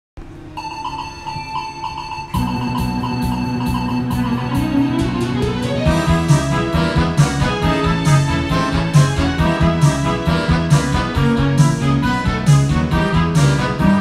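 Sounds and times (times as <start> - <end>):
instrumental music with steady beat: 2.2 - 14.0.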